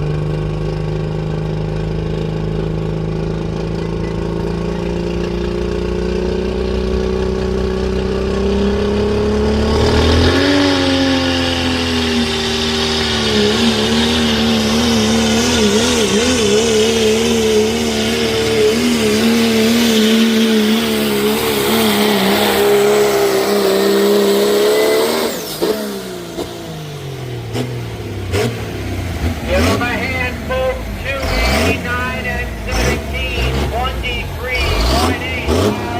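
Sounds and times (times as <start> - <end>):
truck engine at full throttle: 0.0 - 35.9.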